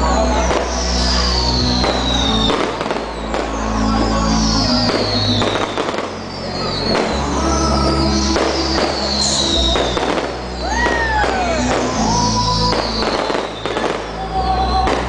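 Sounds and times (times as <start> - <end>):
fireworks bursting with sharp bangs: 0.0 - 15.0
loud music: 0.0 - 15.0.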